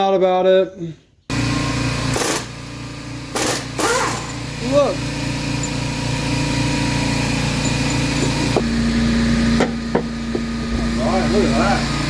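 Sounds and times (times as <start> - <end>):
motor humming: 1.3 - 12.0.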